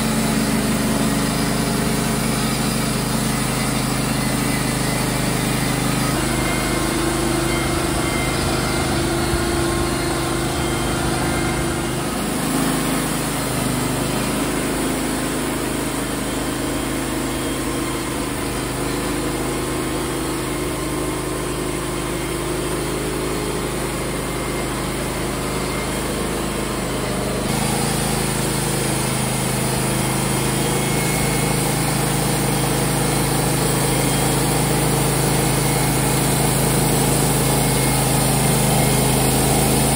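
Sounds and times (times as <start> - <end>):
band sawmill cutting wood: 0.0 - 39.9.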